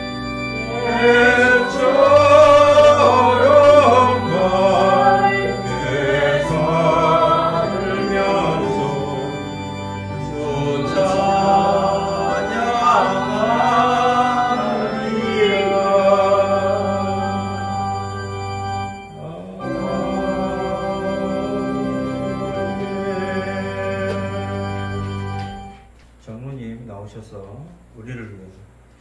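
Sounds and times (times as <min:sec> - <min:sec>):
voices singing a hymn in unison: 0:00.0 - 0:25.8
organ accompaniment: 0:00.0 - 0:26.2.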